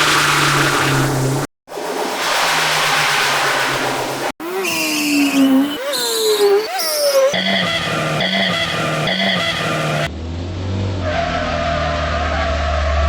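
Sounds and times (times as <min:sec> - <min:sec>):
tire screech: 0:02.2 - 0:13.0.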